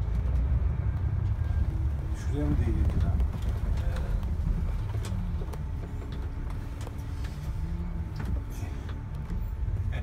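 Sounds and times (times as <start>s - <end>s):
bus diesel engine rumble: 0.0s - 10.0s.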